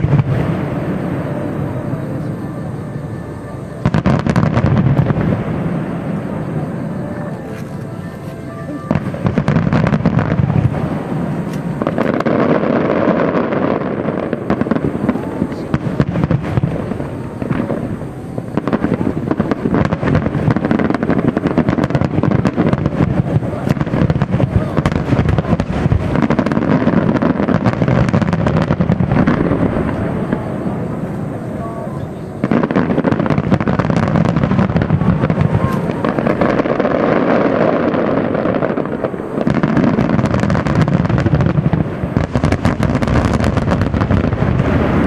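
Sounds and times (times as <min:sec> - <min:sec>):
fireworks bursts and crackles: 0:00.0 - 0:45.0.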